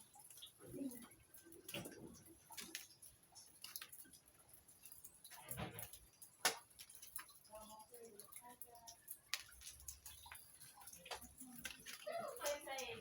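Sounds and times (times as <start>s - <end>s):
rain dripping on leaves: 0.0s - 13.0s.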